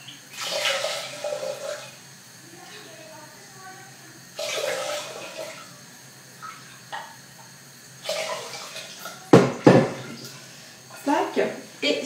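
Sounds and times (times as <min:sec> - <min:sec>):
water pouring into saucepan: 0:00.0 - 0:11.8.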